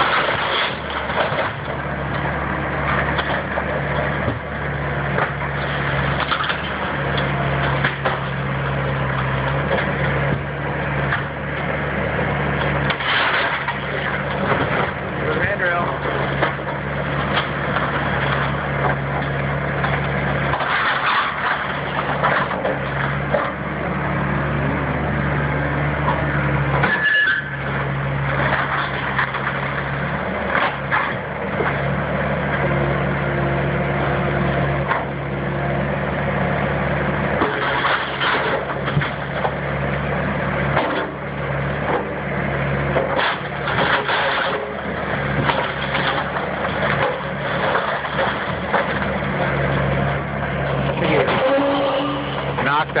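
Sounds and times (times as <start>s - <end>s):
wood cracking and crunching: 0.0s - 24.0s, 25.4s - 53.0s
demolition machine engine running: 0.0s - 53.0s.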